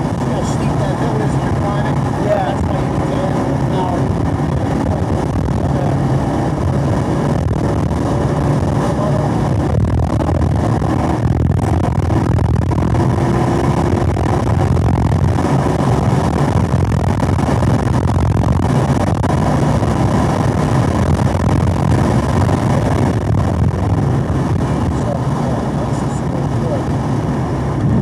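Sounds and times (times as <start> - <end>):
car engine at full throttle: 0.0 - 28.0
wind and road noise: 0.0 - 28.0.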